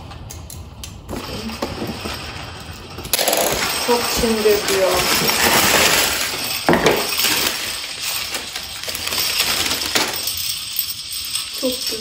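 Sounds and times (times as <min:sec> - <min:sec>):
decoration jingling and clinking: 0:00.3 - 0:12.0.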